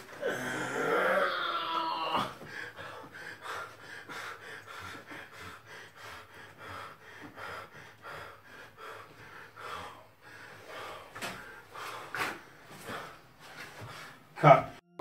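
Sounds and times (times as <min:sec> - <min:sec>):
person breathing heavily: 0:00.0 - 0:14.4.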